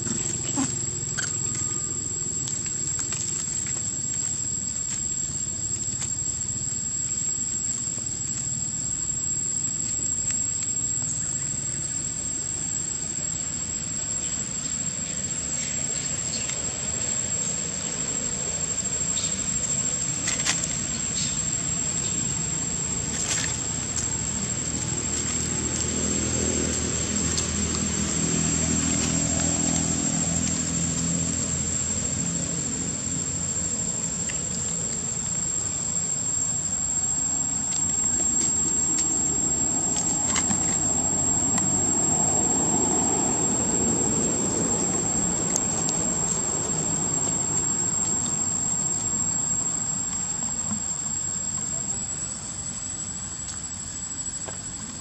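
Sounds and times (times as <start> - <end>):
insects droning high-pitched: 0.0 - 55.0.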